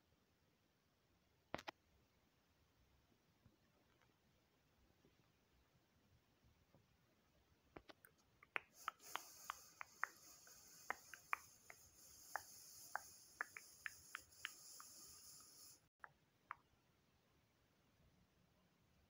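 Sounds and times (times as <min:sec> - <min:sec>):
faint high hiss: 0:00.0 - 0:19.0.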